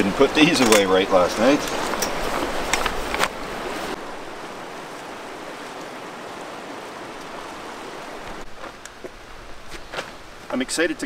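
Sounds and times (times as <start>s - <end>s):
fast-flowing creek rushing: 0.0s - 11.0s.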